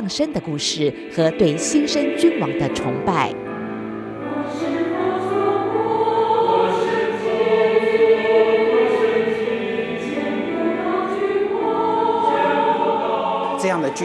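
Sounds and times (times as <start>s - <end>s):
church choir singing: 0.0s - 14.0s.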